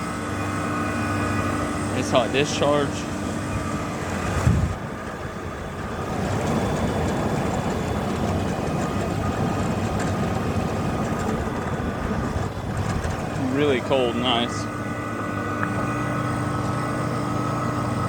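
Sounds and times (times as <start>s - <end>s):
air conditioner compressor humming: 0.0s - 18.0s
fan rushing: 0.0s - 18.0s.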